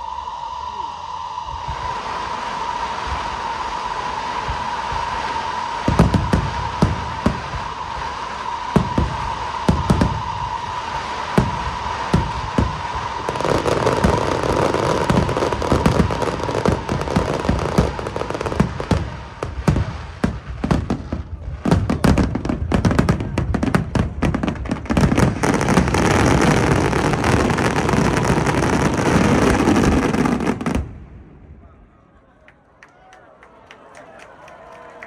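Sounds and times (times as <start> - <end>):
fireworks bangs and crackles: 1.7 - 31.6.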